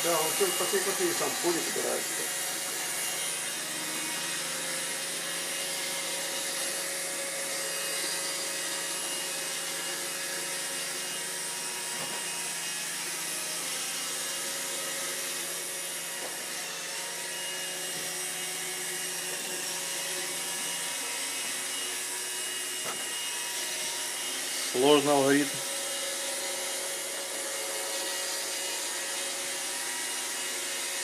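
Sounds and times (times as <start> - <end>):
robot vacuum cleaner whirring: 0.0 - 31.0.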